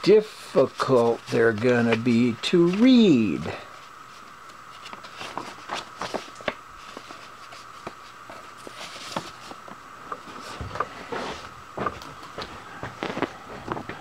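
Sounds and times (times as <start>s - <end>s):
faint steady hum: 0.0s - 14.0s
paper rustling and crackling: 0.6s - 12.0s.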